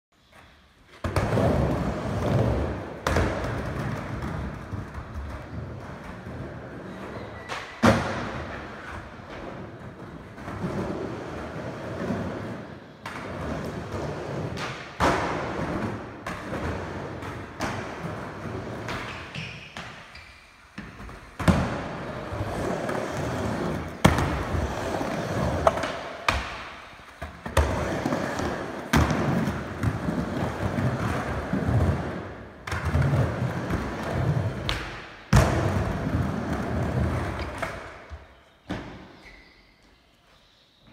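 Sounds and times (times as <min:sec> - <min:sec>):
skateboard wheels rolling: 0:00.2 - 0:39.3.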